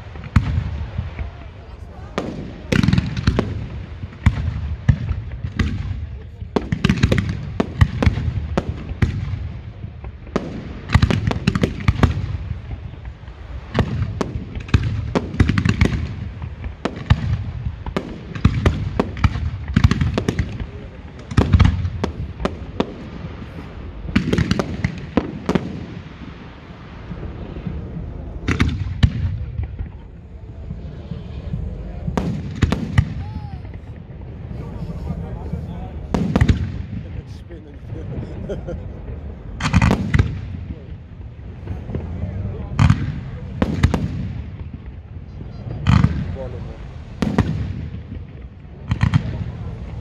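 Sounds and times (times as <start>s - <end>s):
fireworks bangs and crackling: 0.0s - 50.0s
heavy low booms: 0.0s - 50.0s.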